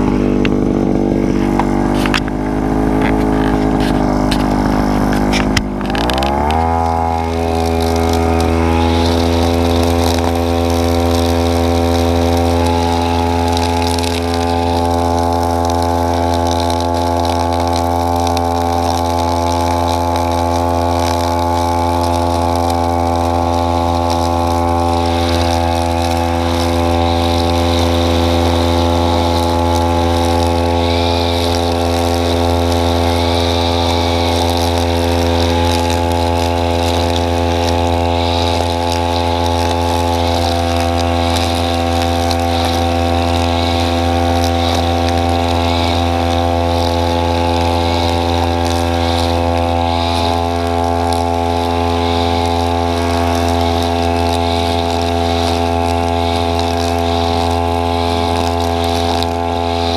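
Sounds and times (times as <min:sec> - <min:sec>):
string trimmer motor drone: 0:00.0 - 0:59.9.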